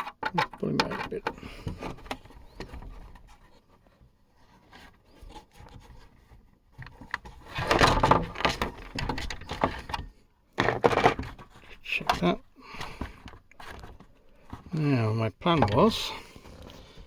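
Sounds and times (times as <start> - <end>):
scraping rustling and knocks: 0.0 - 17.0.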